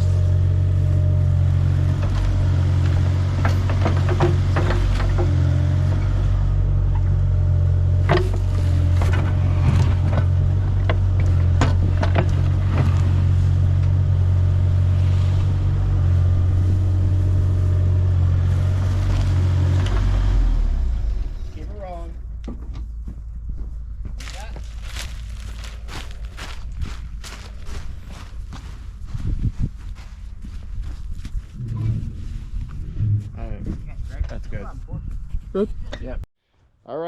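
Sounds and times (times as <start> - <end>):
excavator engine running: 0.0 - 34.5.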